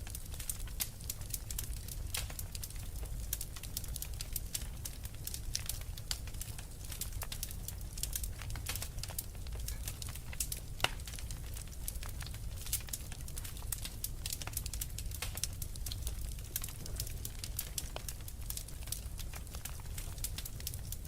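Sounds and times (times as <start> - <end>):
low rumble of fire: 0.0 - 21.0
wood fire crackling and popping: 0.0 - 21.0.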